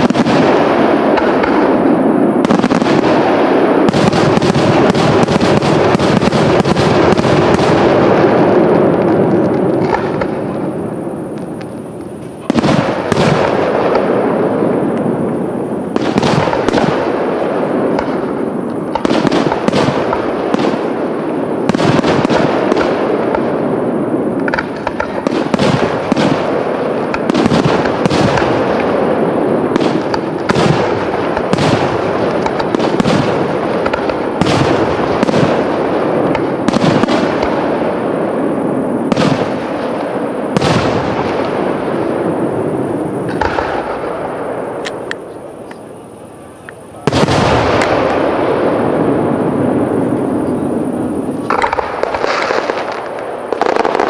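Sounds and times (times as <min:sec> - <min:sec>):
fireworks bangs and crackle: 0:00.0 - 0:54.0.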